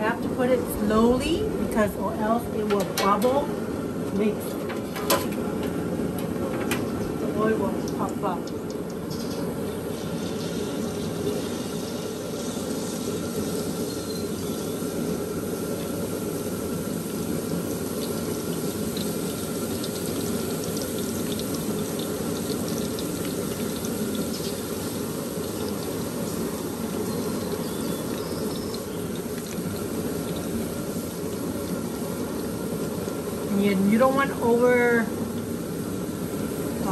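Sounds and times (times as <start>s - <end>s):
garlic sizzling in hot oil: 0.0s - 36.9s
oil crackles and pops: 4.0s - 36.9s.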